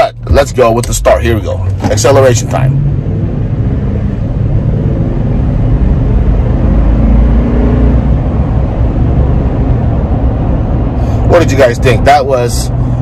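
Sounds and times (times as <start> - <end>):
engine accelerating hard: 0.0 - 13.0.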